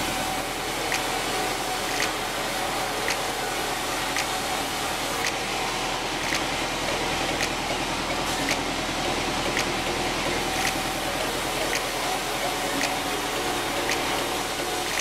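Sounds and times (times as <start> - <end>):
band saw mechanical hum: 0.0 - 15.0
faint ticking: 0.4 - 15.0.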